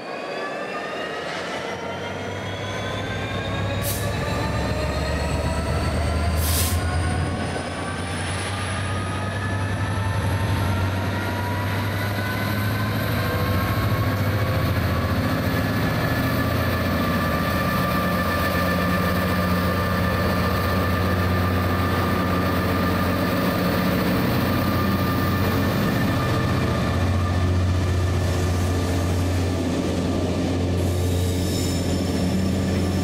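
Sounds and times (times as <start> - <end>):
low train rumble: 0.0 - 33.0
train whine rising in pitch: 0.0 - 33.0.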